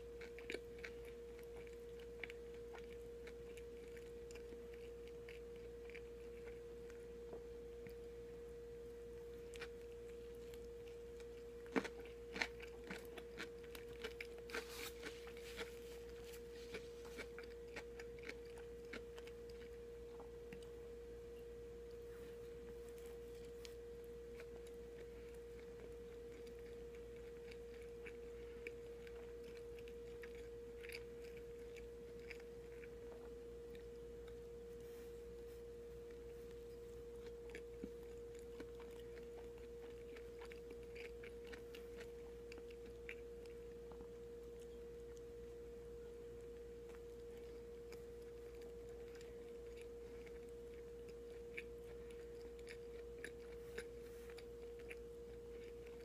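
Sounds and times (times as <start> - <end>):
faint chewing: 0.0 - 56.0
steady hum: 0.0 - 56.0.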